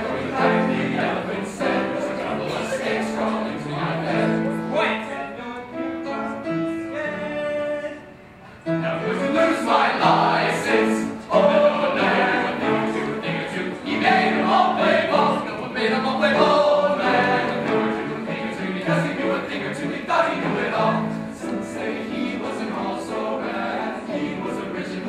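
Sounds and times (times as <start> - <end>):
men's choir singing gospel: 0.0 - 5.4, 8.7 - 25.0
piano accompaniment: 0.0 - 25.0.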